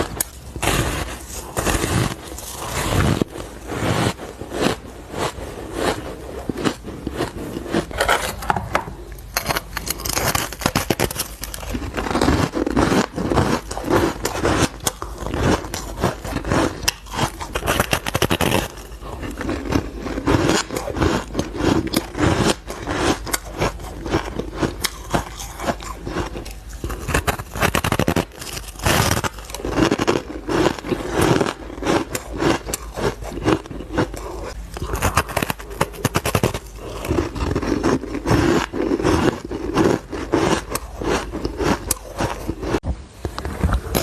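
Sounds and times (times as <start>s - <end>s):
person chewing ice: 0.0s - 44.0s.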